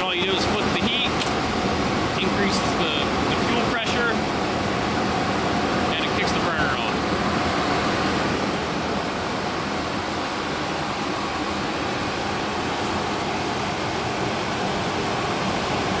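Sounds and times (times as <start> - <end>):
space heater blower rushing air: 0.0 - 16.0.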